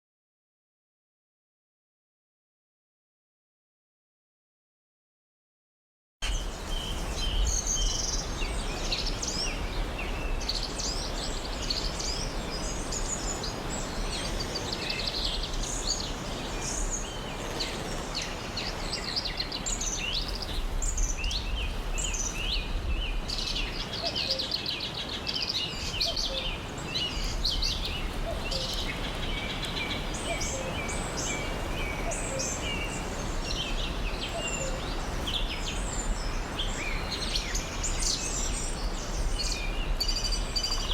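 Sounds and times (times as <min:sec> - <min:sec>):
birds chirping and trilling: 0:06.2 - 0:40.9.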